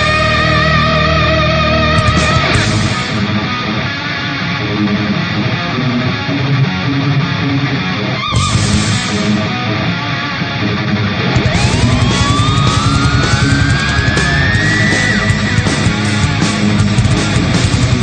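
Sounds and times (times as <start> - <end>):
heavy rock guitar music: 0.0 - 18.0.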